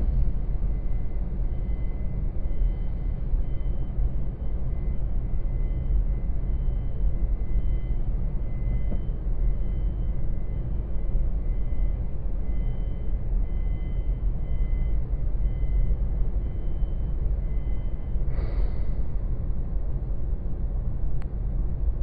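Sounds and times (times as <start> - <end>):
low rumble of ferry deck: 0.0 - 22.0.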